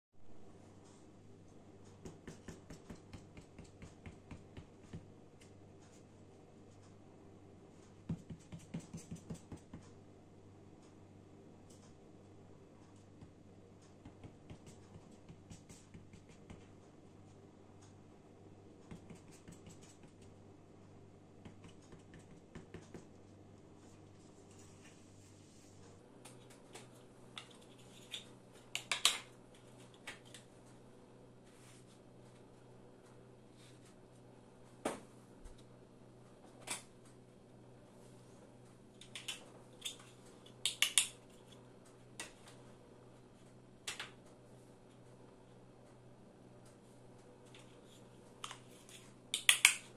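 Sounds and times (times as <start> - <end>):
low steady hum: 0.2 - 49.9.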